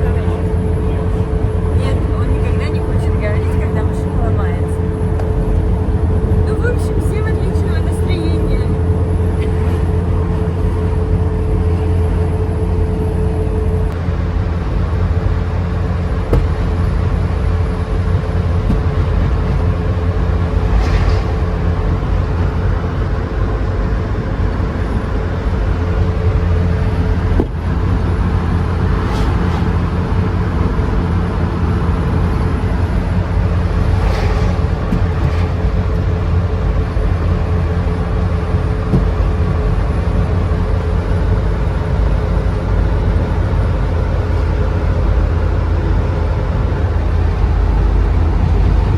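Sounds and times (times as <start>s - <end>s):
van engine and road drone: 0.0s - 48.9s.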